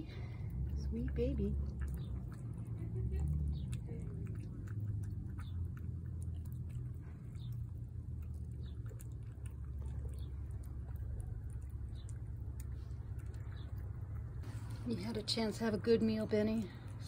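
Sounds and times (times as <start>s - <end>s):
cat chewing wet food: 0.0s - 17.0s
steady low rumble: 0.0s - 17.0s.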